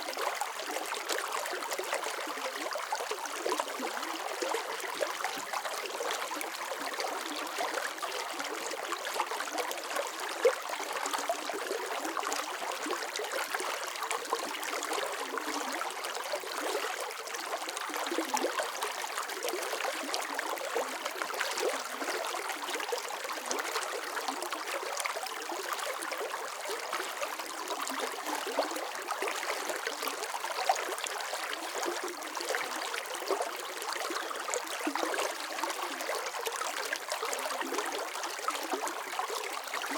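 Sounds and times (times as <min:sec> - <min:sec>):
stream water flowing and trickling: 0:00.0 - 0:39.9.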